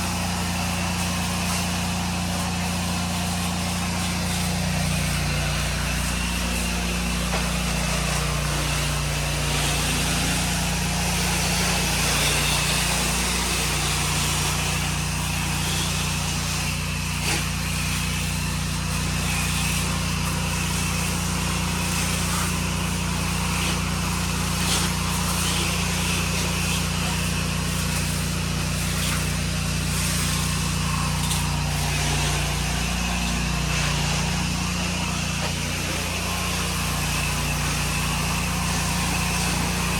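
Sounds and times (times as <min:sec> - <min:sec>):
pressure washer engine drone: 0:00.0 - 0:39.9
pressure washer hissing: 0:00.0 - 0:39.9.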